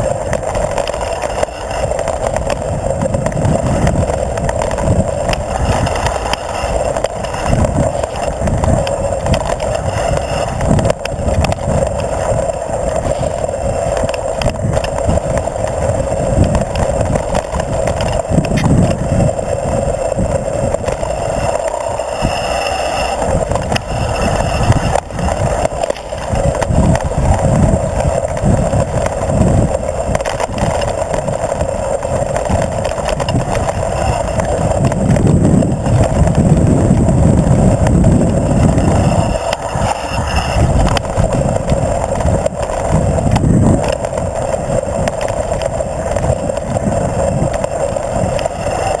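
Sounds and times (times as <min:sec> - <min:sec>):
bike rattling over bumps: 0:00.0 - 0:49.0
knobby tyres on dirt: 0:00.0 - 0:49.0
wind rumble on microphone: 0:00.0 - 0:49.0.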